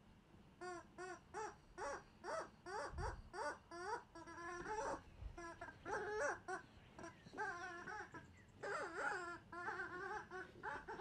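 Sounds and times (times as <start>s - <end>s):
squeaky rubber toy squawking: 0.6s - 11.0s.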